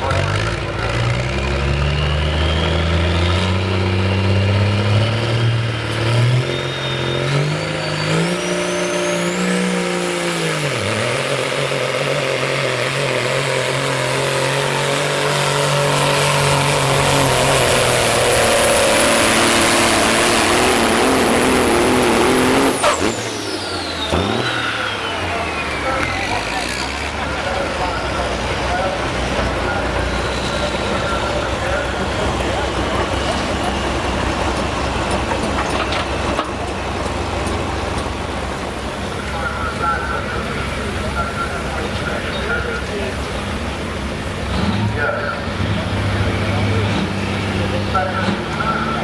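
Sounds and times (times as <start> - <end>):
diesel truck engine at full power: 0.0 - 49.0
high turbo whine: 1.5 - 49.0.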